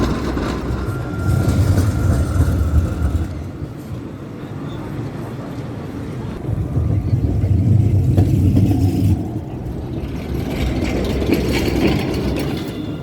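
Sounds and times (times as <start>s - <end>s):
tram passing: 0.0s - 13.0s.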